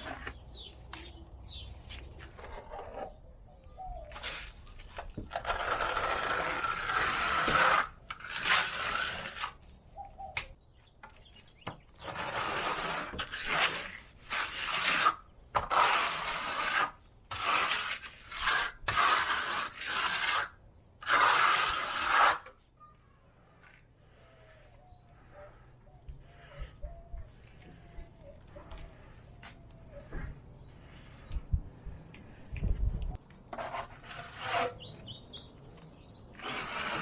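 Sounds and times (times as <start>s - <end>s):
trowel scraping stucco wall: 0.0s - 31.3s, 33.1s - 37.0s.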